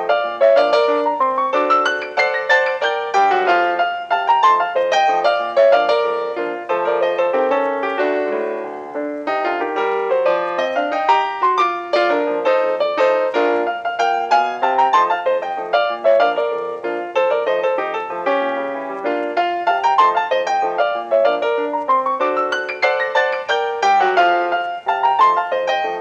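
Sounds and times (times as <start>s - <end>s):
fast piano music: 0.0s - 26.0s.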